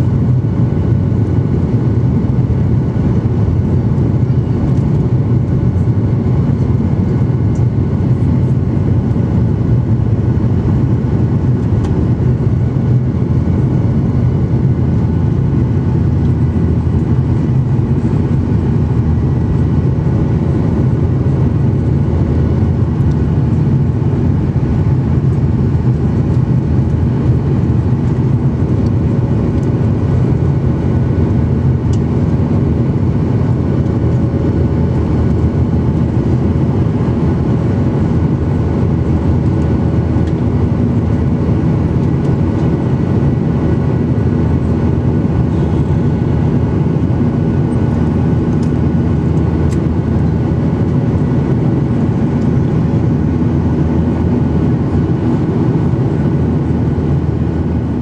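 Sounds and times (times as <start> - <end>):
jet engine cabin rumble: 0.0 - 58.0.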